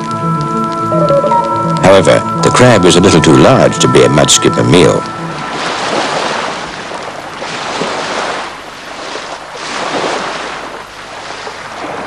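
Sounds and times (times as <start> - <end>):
surf washing onto beach: 0.6 - 12.0.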